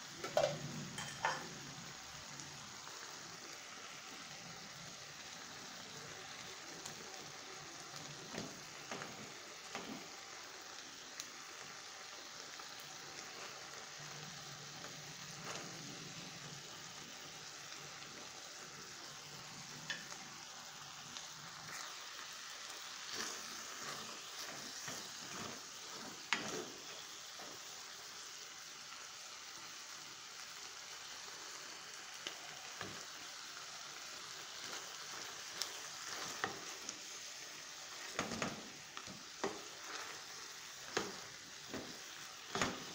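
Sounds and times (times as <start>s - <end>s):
chicken sizzling in a pan: 0.0s - 42.9s.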